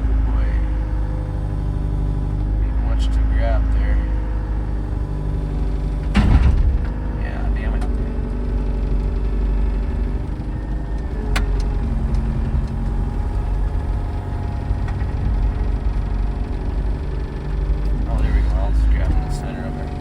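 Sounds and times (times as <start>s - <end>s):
skid loader engine running: 0.0s - 20.0s.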